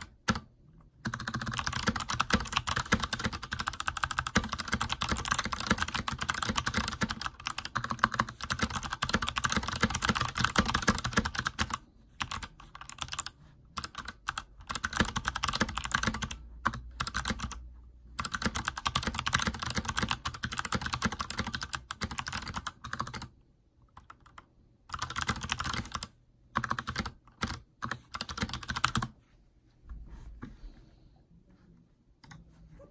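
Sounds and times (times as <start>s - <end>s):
fast typing on clicky keyboard: 0.0s - 17.6s, 18.2s - 23.3s, 23.9s - 29.1s.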